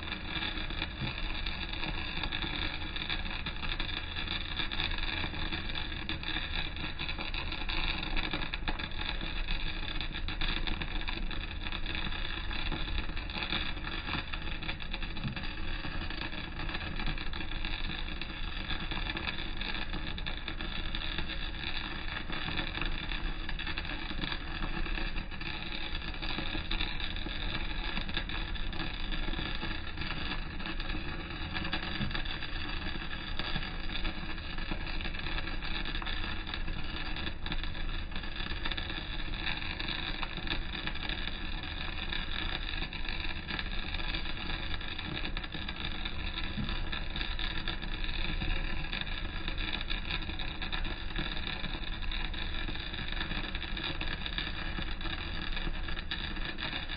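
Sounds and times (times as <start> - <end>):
welding arc crackling: 0.0 - 52.0.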